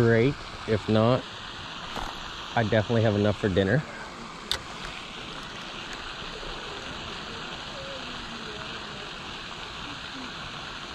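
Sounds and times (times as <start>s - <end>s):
splashing water fountain: 0.0s - 10.9s.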